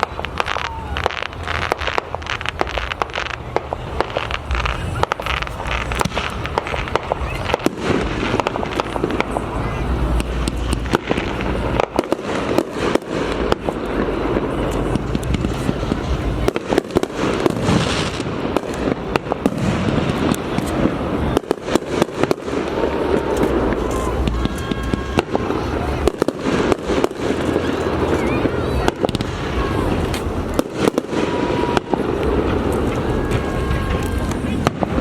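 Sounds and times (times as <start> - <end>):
fireworks bangs and crackles: 0.0 - 35.0
people's voices: 0.0 - 35.0.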